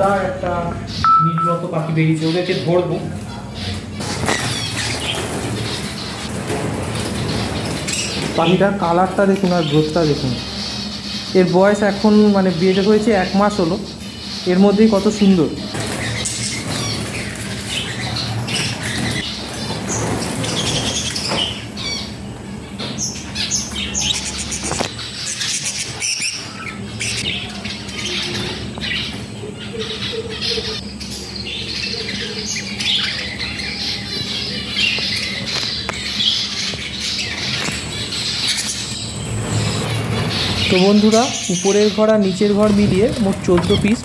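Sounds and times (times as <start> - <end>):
budgerigars chattering and squawking: 0.0 - 44.0
low steady hum: 0.0 - 44.0.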